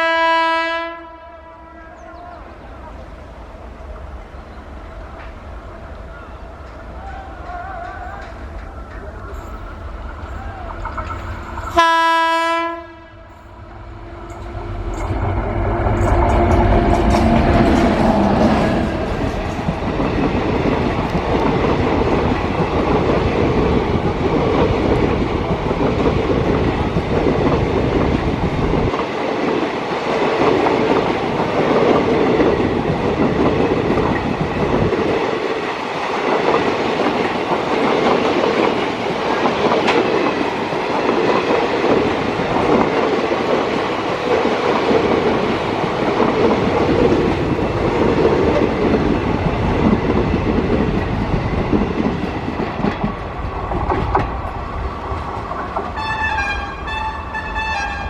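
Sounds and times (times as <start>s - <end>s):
train wheels rumbling on rails: 2.0s - 58.0s
clickety-clack over rail joints: 4.8s - 58.0s.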